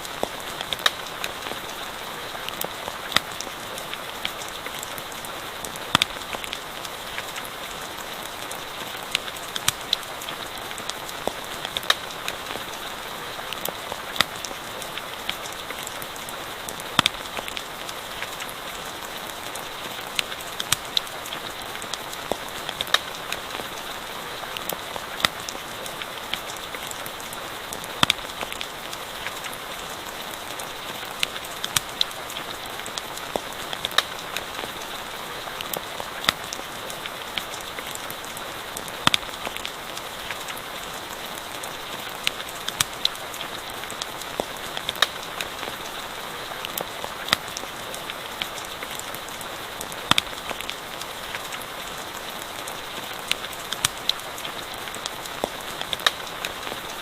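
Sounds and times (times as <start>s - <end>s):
campfire crackling and popping: 0.0s - 57.0s
steady rain hiss: 0.0s - 57.0s.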